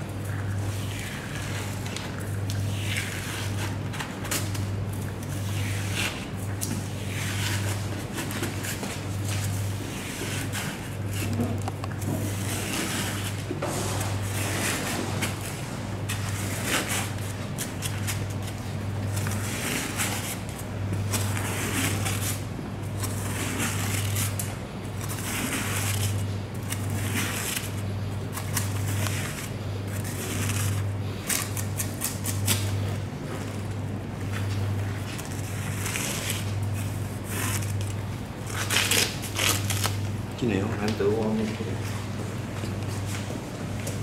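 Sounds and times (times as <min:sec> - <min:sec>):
low steady hum: 0:00.0 - 0:44.0
fish skin rasping and tearing: 0:00.1 - 0:33.6, 0:34.4 - 0:40.2.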